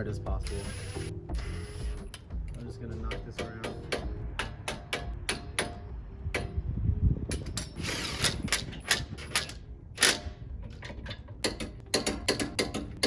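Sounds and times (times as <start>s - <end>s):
metal tools clicking and clanking: 0.0s - 6.6s, 7.3s - 13.0s
ratchet clicks: 0.4s - 5.8s, 7.3s - 13.0s.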